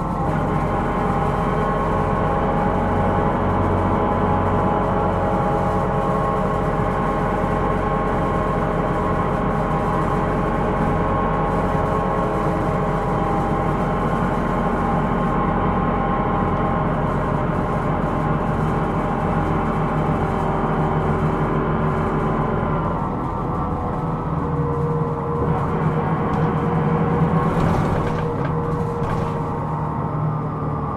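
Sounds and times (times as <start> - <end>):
bus engine and road rumble: 0.0 - 30.9.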